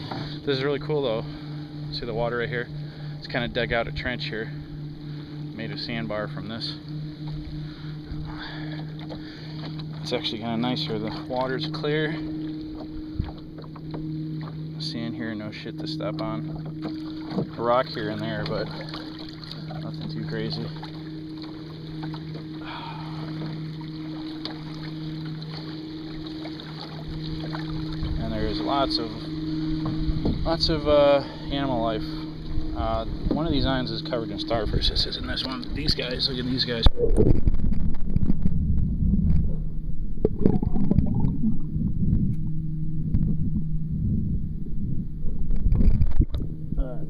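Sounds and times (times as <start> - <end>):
small waves lapping against hull: 0.0 - 47.0
steady low hum: 0.0 - 47.0
underwater rumbling and sloshing: 0.0 - 47.0.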